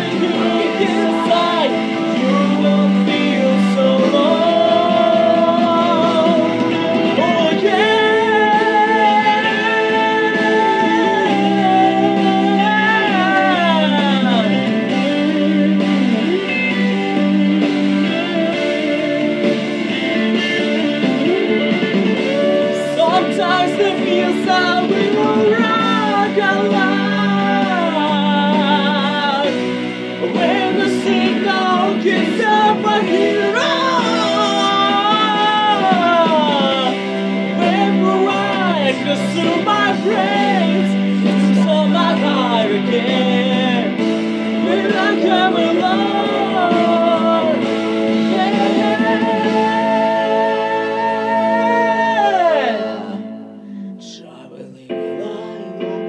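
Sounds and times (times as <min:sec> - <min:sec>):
instrumental backing track: 0:00.0 - 0:56.0
man singing: 0:00.0 - 0:56.0.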